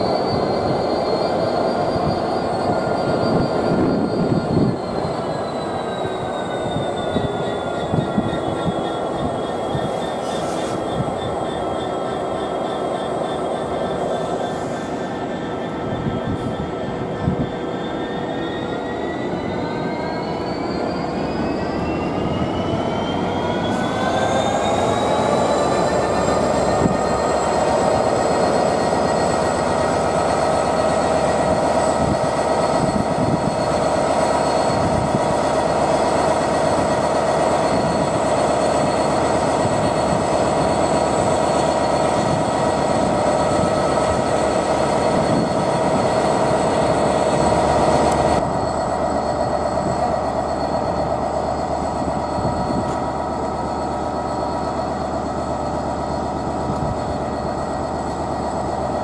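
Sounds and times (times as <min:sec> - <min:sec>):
train rumble: 0:00.0 - 0:59.0
train whine: 0:00.0 - 0:59.0.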